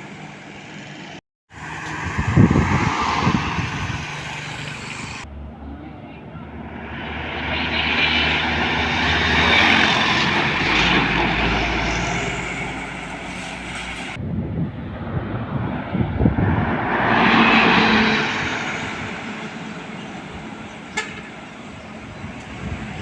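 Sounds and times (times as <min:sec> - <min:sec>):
heavy vehicles driving past: 0:00.0 - 0:23.0.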